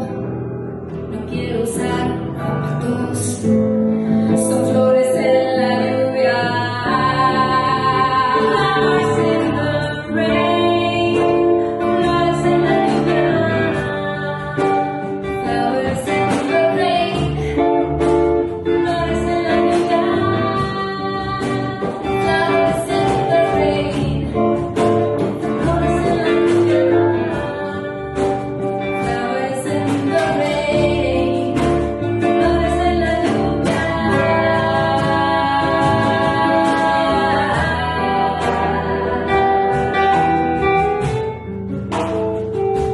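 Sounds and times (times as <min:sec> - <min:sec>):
woman singing: 0:00.0 - 0:00.3, 0:01.0 - 0:41.3
acoustic guitar: 0:00.0 - 0:42.9
upright double bass: 0:00.0 - 0:42.9
hand percussion: 0:01.0 - 0:42.9.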